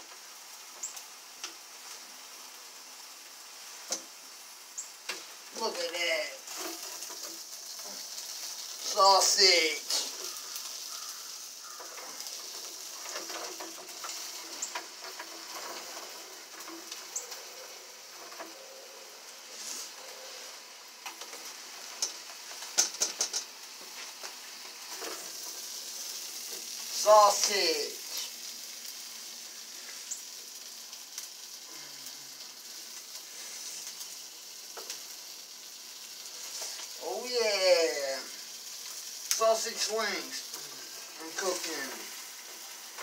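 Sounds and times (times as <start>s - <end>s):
sausages sizzling on a grill: 0.0s - 43.0s.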